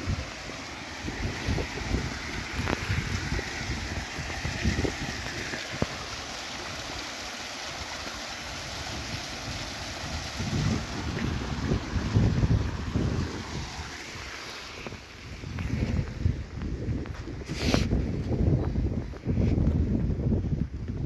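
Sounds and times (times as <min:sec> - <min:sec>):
wind buffeting microphone: 0:00.0 - 0:06.9, 0:08.8 - 0:21.0
water spouting and splashing: 0:00.0 - 0:21.0.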